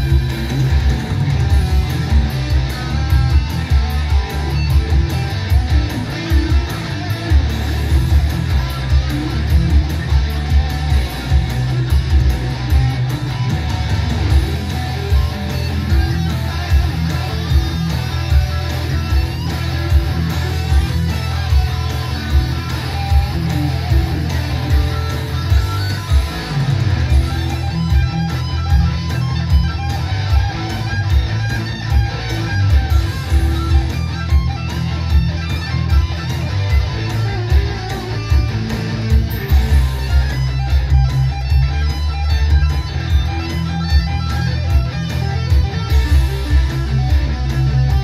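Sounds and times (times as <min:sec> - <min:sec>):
heavy metal electric guitar: 0:00.0 - 0:48.0
steady drum beat: 0:00.0 - 0:48.0.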